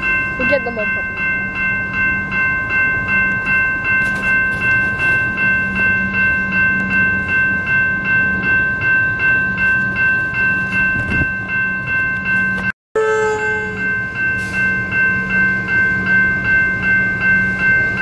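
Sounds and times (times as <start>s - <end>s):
electric train rumbling: 0.0s - 18.0s
level crossing bells ringing: 0.0s - 18.0s.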